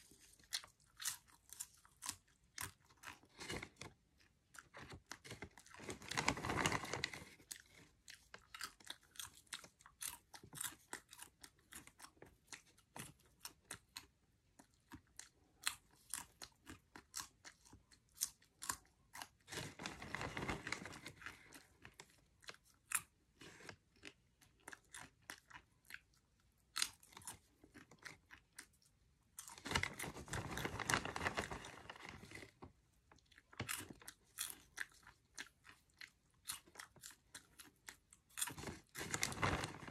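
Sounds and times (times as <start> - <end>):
popcorn crunching and chewing: 0.0 - 39.9.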